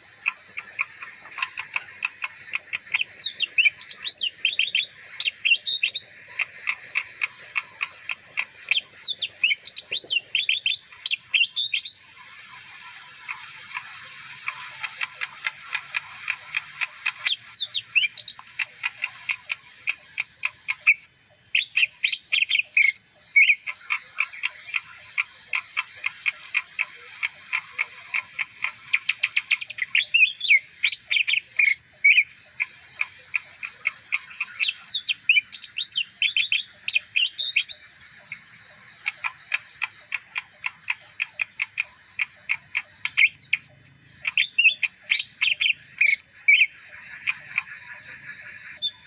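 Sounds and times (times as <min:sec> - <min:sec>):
bird singing chirps and trills: 0:00.0 - 0:49.0.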